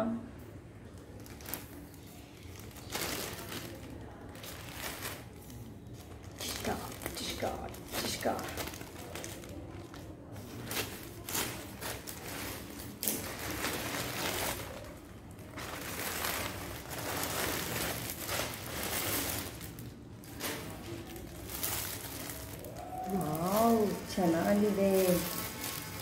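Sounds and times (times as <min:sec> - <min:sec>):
plastic packaging crinkling: 0:00.9 - 0:26.0.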